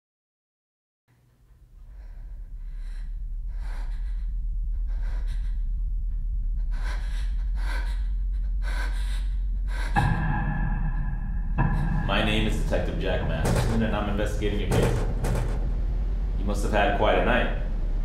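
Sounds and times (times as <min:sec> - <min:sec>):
deep low drone: 0:01.5 - 0:18.0.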